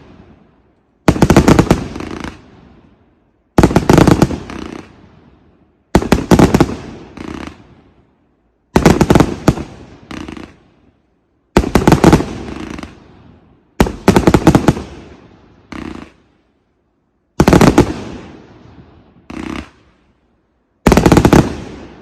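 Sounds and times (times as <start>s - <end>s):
firework volleys of sharp bangs: 0.0s - 22.0s.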